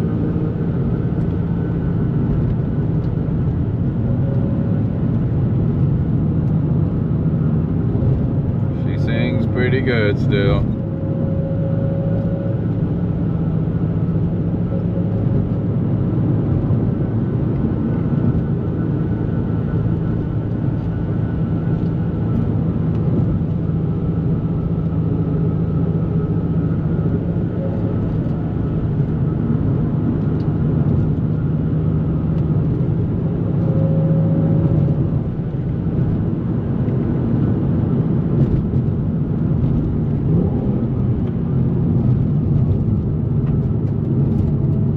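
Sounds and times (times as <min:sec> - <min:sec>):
car engine droning: 0:00.0 - 0:44.9
road noise: 0:00.0 - 0:44.9.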